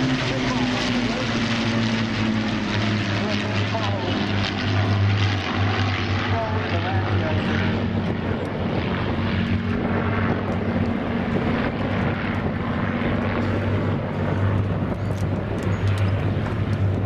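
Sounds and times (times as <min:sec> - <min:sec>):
propeller aircraft droning past: 0:00.0 - 0:17.0.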